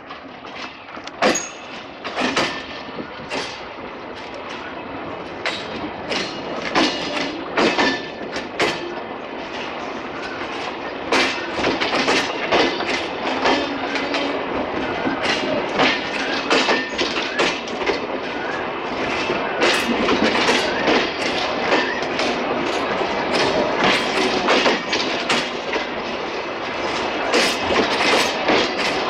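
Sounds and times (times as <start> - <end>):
train rolling rumble: 0.0 - 29.0
train wheels clacking over rail joints: 0.0 - 29.0.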